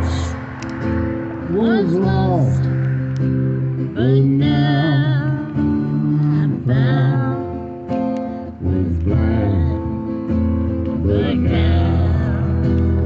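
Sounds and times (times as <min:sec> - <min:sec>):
acoustic guitar strumming: 0:00.0 - 0:13.0
person singing slow melody: 0:00.0 - 0:13.0.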